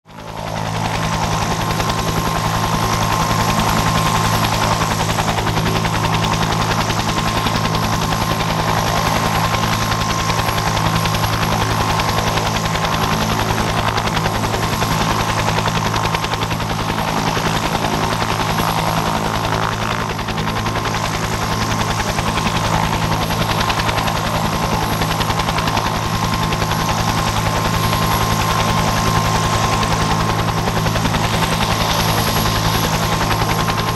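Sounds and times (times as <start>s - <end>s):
helicopter rotor blade beat: 0.1s - 33.9s
turbine engine whine: 0.1s - 33.9s.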